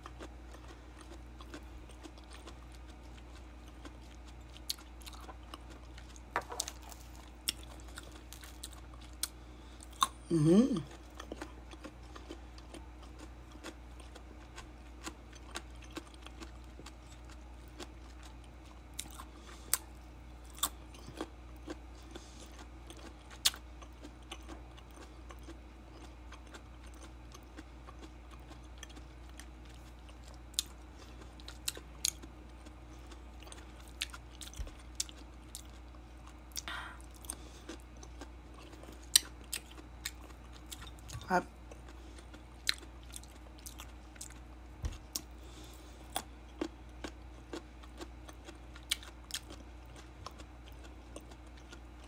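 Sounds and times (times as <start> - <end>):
low steady hum: 0.0 - 52.0
person chewing: 0.0 - 52.0.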